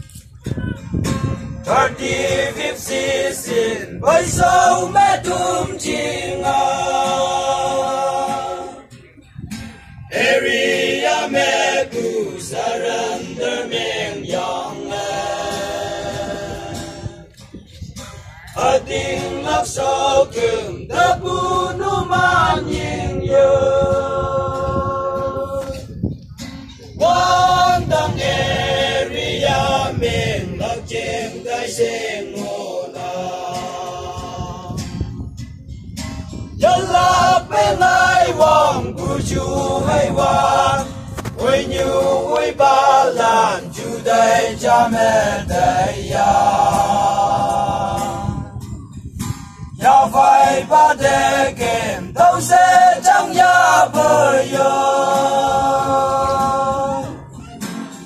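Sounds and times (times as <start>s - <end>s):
choir singing: 1.6s - 9.0s, 10.1s - 17.3s, 18.5s - 25.7s, 27.0s - 34.8s, 36.6s - 48.6s, 49.8s - 57.3s.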